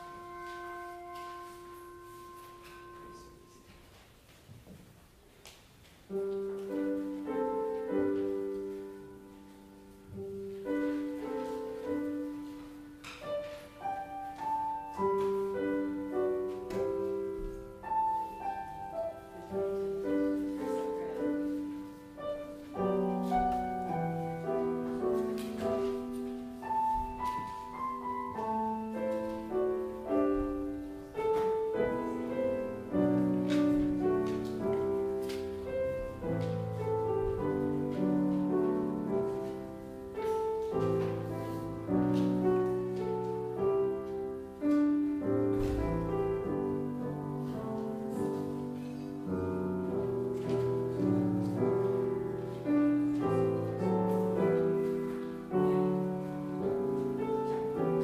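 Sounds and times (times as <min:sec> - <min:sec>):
piano music: 0:00.0 - 0:04.2, 0:06.0 - 0:58.0.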